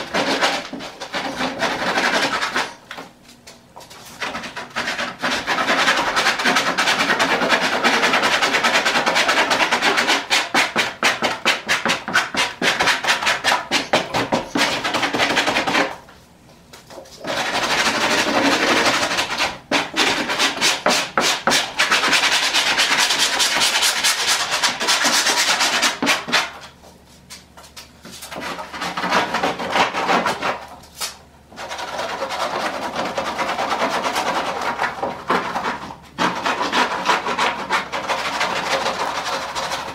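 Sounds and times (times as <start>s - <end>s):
hand tool scraping foam: 0.0s - 2.8s, 4.0s - 16.0s, 17.1s - 26.5s, 28.0s - 39.9s.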